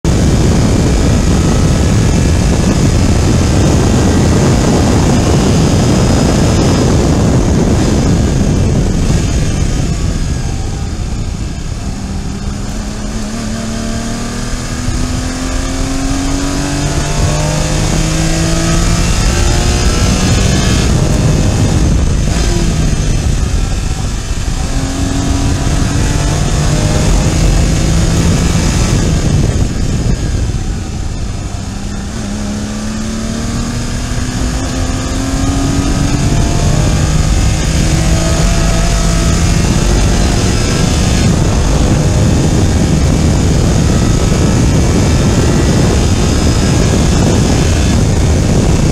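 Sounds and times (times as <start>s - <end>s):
car engine at high revs: 0.0s - 48.9s
road and wind noise: 0.0s - 48.9s.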